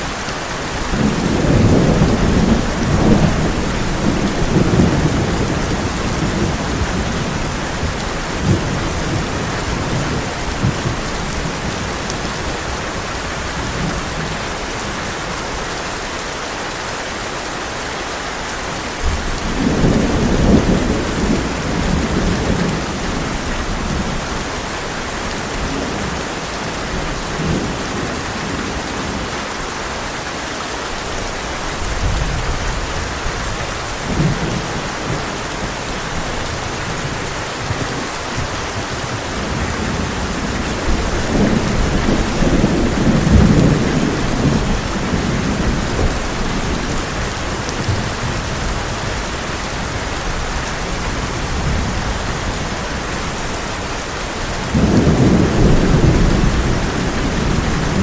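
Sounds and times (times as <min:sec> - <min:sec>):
thunder rumbling: 0:00.0 - 0:15.0, 0:19.0 - 0:29.4, 0:31.8 - 0:58.0
heavy rain on a tin roof: 0:00.0 - 0:58.0.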